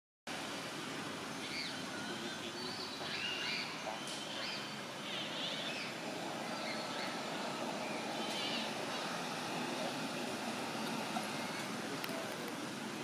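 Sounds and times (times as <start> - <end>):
outdoor background hiss: 0.3 - 13.0.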